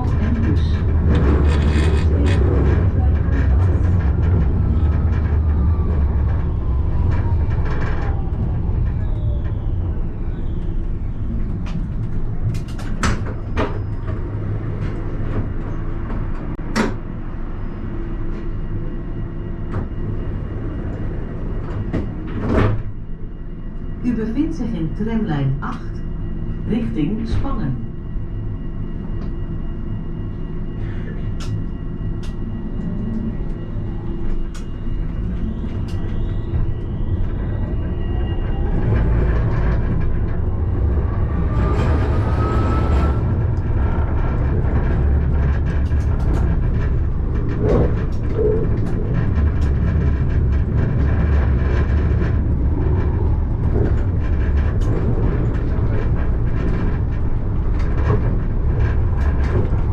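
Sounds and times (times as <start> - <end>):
wheel-on-rail rumble: 0.0 - 23.2, 31.0 - 59.9
tram motor whine: 0.0 - 59.9.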